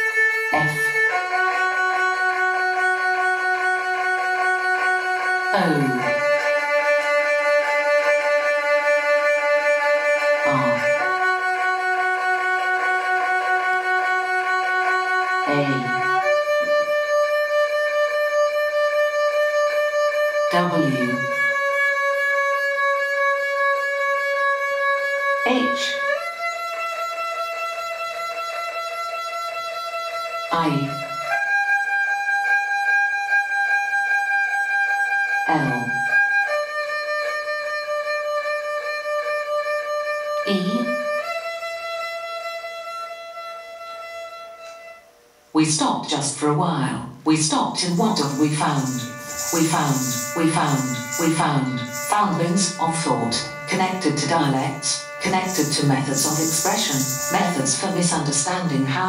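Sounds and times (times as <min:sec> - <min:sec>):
erhu playing held notes: 0:00.0 - 0:45.4, 0:47.8 - 0:59.0.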